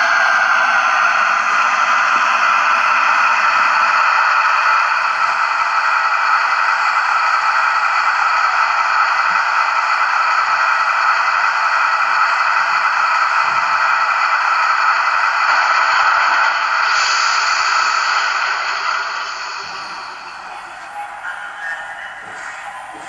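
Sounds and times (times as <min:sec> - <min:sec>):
diesel engine sound from loudspeaker: 0:00.0 - 0:23.0.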